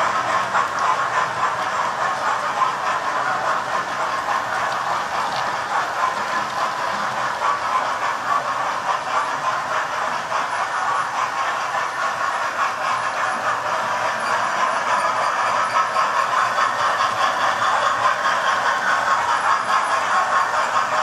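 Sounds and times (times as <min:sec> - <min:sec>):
model trains whirring on track: 0:00.0 - 0:21.0.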